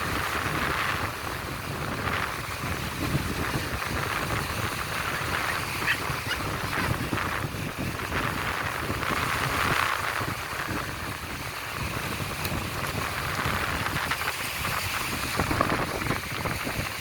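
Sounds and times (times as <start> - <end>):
sea surf breaking on beach: 0.0 - 17.0.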